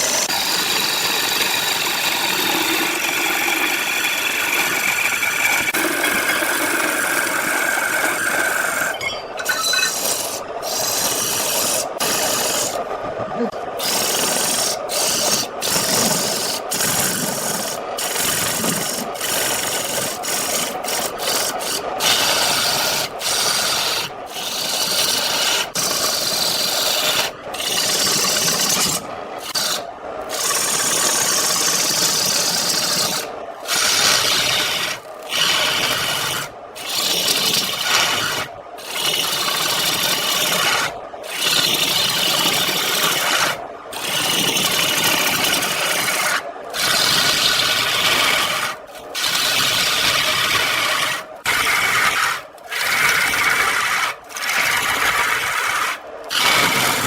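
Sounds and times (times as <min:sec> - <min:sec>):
turning tool scraping wood on lathe: 0:00.0 - 0:12.9, 0:13.5 - 0:57.0.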